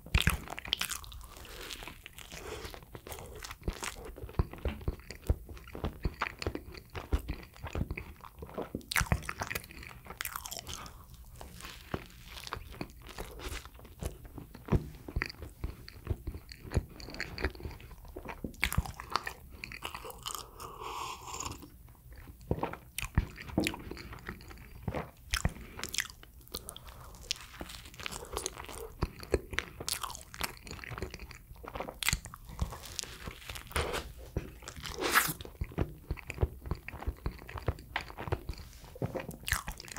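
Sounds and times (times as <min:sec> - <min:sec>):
person chewing bread: 0:00.0 - 0:39.9.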